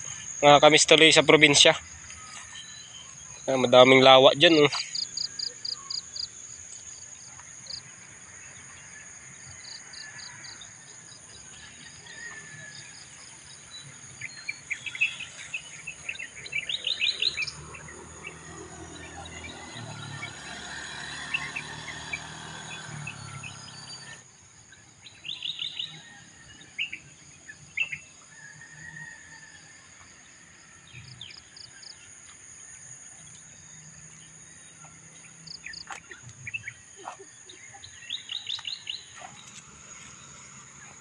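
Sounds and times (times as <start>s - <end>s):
birds chirping: 0.0s - 29.2s, 30.0s - 41.0s
high insect drone: 0.0s - 41.0s
motor scooter passing: 3.5s - 24.4s, 28.3s - 41.0s.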